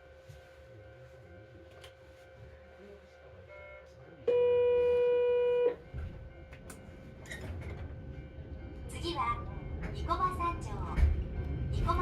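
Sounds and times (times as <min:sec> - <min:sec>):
cable car low rumble: 0:00.0 - 0:12.0.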